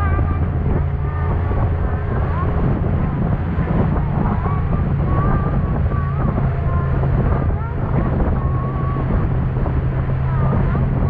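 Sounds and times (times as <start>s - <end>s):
motorboat engine hum: 0.0s - 11.0s
water rushing along hull: 0.0s - 11.0s
wind buffeting microphone: 0.0s - 11.0s.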